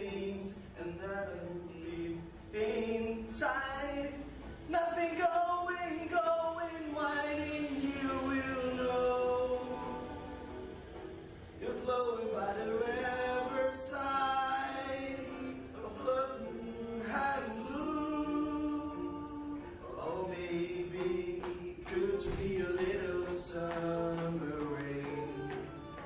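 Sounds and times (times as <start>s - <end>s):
person singing slow melody: 0.0s - 10.8s, 11.6s - 26.0s.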